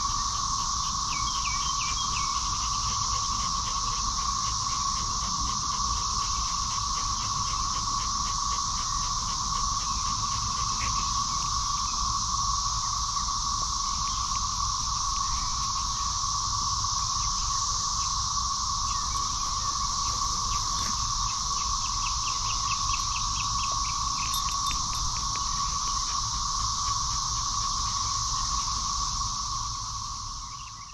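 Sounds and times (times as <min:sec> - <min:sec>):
insects buzzing: 0:00.0 - 0:30.9.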